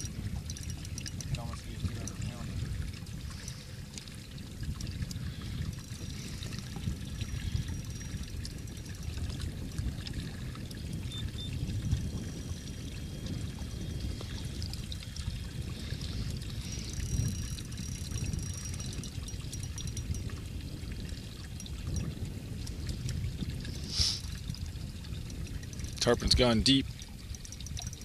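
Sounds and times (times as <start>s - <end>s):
water lapping against boat hull: 0.0s - 28.0s
wind rumble on microphone: 0.0s - 28.0s.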